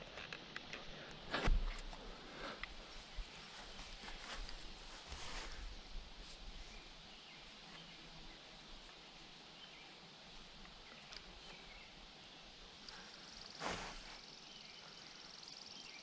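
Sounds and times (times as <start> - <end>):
faint outdoor background hiss: 0.0 - 16.0.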